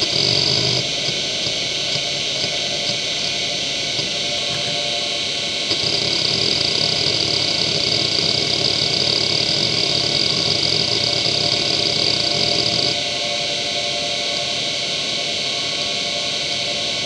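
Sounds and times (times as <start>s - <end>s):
hard drive high whine: 0.0s - 17.0s
hard drive seek chatter: 0.0s - 17.0s.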